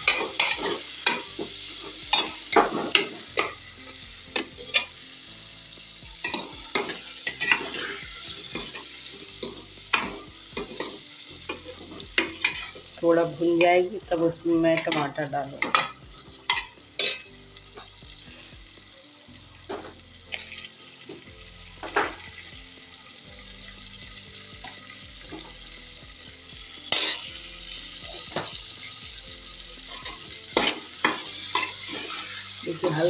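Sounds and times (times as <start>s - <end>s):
vegetables frying in oil: 0.0s - 33.0s.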